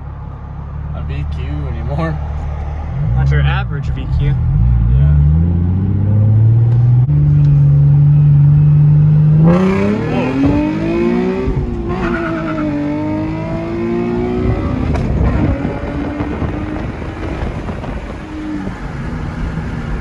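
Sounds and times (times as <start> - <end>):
car exhaust engine note: 0.0 - 20.0.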